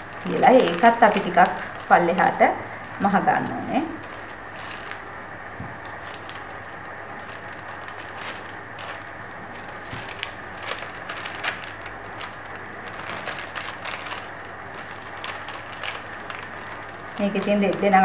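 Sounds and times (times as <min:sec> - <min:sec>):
fabric crinkling and rustling: 0:00.0 - 0:18.0
steady background hiss: 0:00.0 - 0:18.0.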